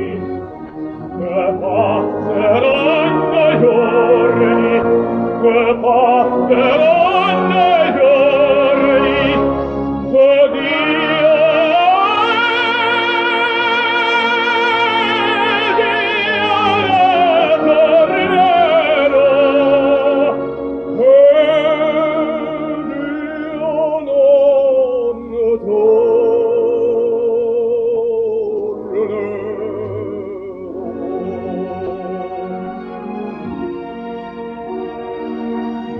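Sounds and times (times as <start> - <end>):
operatic tenor singing: 0.0 - 35.9.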